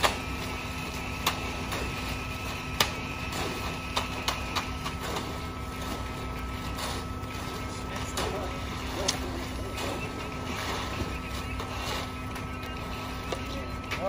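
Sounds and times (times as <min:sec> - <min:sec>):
concrete mixer truck droning: 0:00.0 - 0:14.0.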